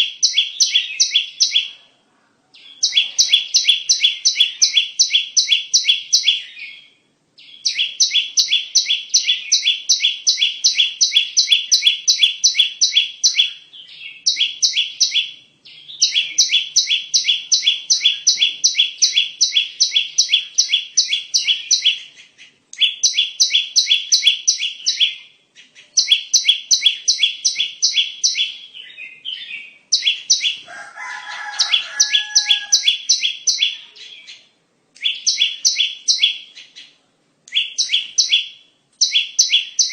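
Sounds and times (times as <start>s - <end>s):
bird song with sharp high notes: 0.0s - 1.9s, 2.6s - 30.7s, 31.4s - 39.9s
lower bird call: 2.6s - 39.9s.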